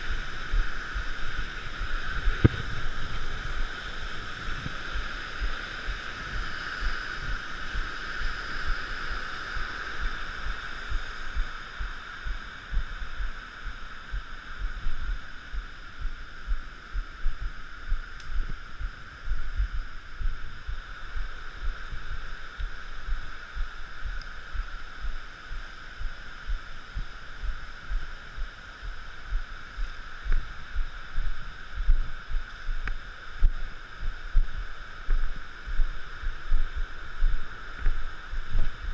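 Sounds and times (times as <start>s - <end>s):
low rumbling thumps on microphone: 0.0s - 3.8s, 9.6s - 38.9s
steady high-pitched hiss: 0.0s - 38.9s.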